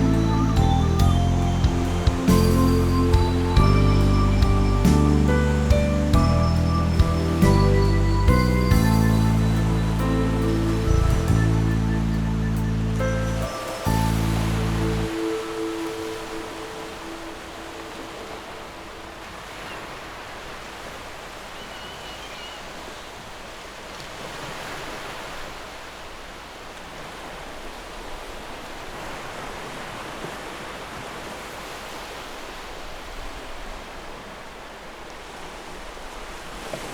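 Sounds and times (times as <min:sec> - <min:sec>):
sea waves washing on shore: 0:00.0 - 0:36.9.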